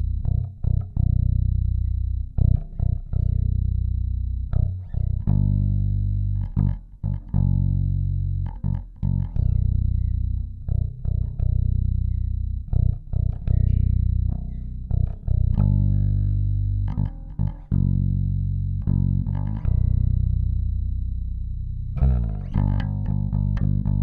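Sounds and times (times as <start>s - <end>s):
electric bass plucked fingerstyle: 0.0s - 24.0s.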